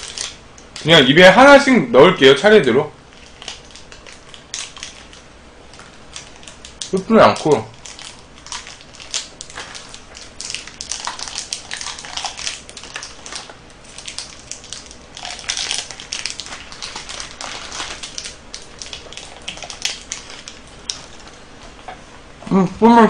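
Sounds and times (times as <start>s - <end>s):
crunching wafer bars: 0.0s - 1.0s, 3.0s - 21.6s
wrappers crinkling: 0.0s - 1.0s, 3.0s - 21.6s.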